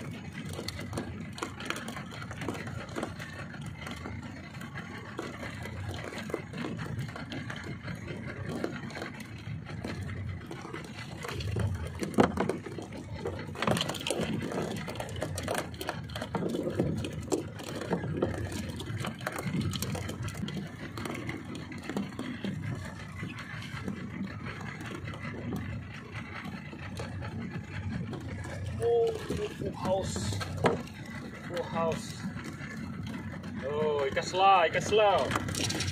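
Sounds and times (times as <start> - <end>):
fishing tackle knocking and rattling: 0.0 - 35.9.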